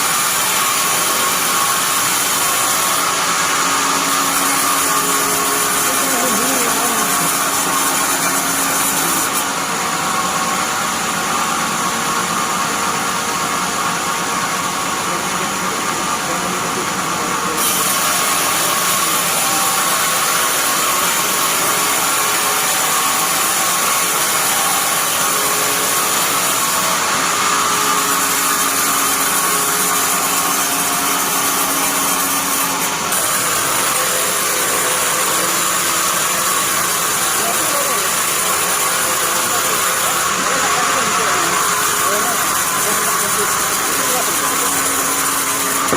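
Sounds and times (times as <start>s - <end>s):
band sawmill running: 0.0s - 45.9s.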